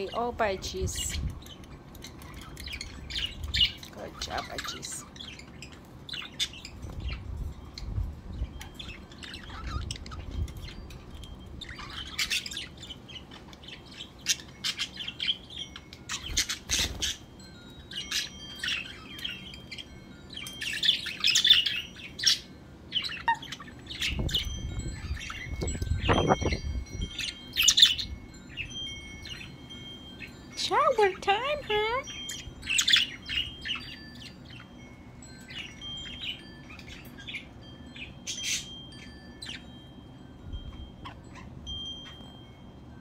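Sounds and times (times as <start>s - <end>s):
budgerigars chirping and squawking: 0.0s - 34.8s, 35.4s - 39.7s, 40.6s - 42.3s.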